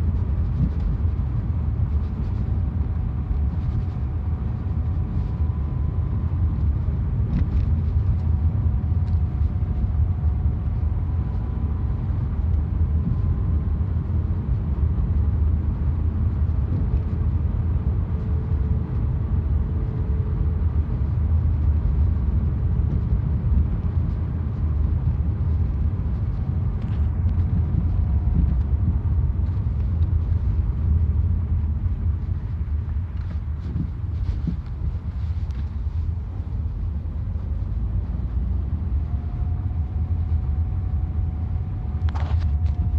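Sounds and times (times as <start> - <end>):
low road rumble: 0.0 - 42.9.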